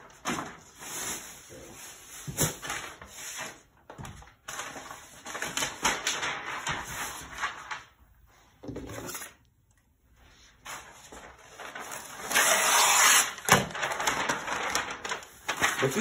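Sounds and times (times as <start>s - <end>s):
paper rustling and crinkling: 0.0s - 8.0s, 10.4s - 16.0s.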